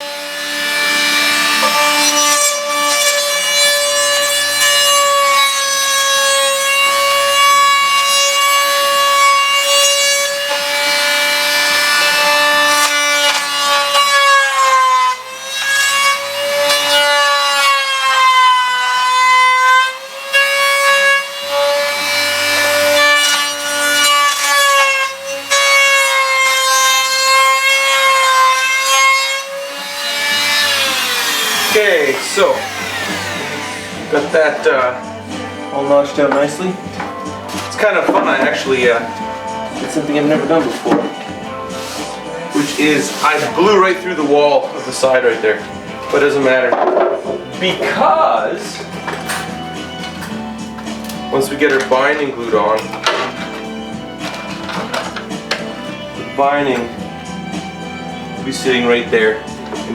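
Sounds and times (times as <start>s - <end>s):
power tool cutting wood: 0.0s - 59.9s.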